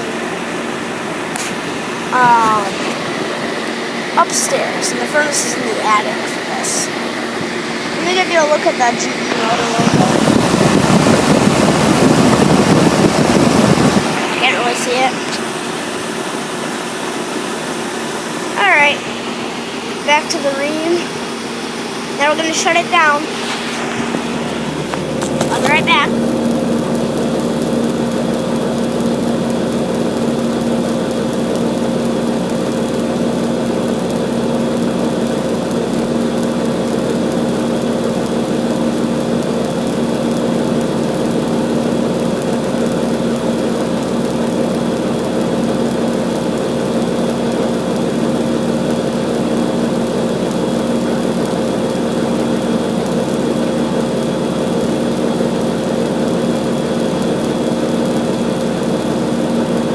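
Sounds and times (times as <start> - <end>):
compressor humming: 0.0 - 59.9
condenser fan rushing: 0.0 - 59.9.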